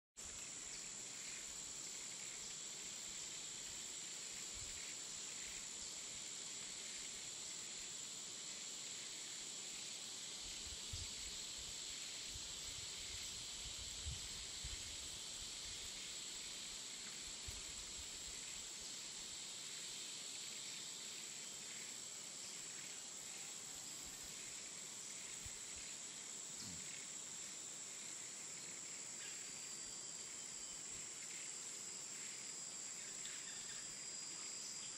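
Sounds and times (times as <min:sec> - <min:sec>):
high-pitched insect drone: 0:00.2 - 0:34.9.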